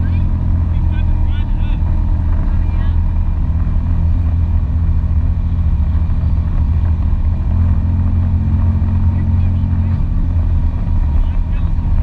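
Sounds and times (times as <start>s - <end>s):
atv engine droning: 0.0s - 12.0s.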